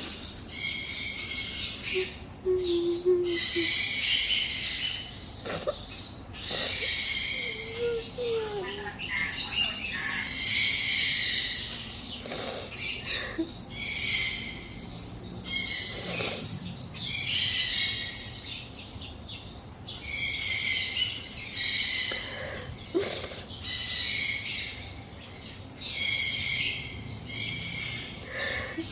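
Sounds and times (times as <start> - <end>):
pet bird chirping: 0.0 - 28.9.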